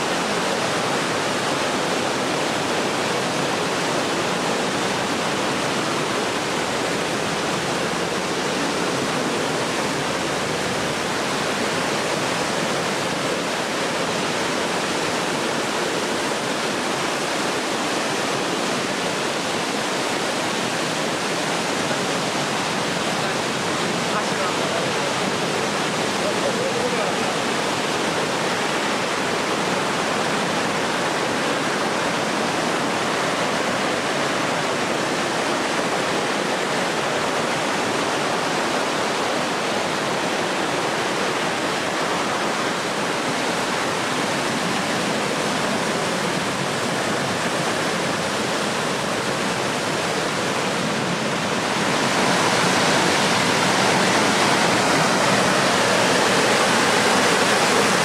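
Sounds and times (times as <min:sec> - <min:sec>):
mountain stream rushing over rocks: 0:00.0 - 0:58.0.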